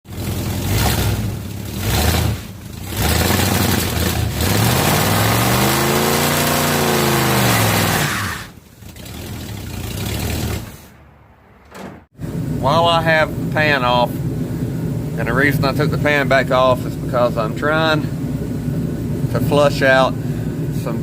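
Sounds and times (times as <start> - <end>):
rough gear whine: 0.1 - 21.0.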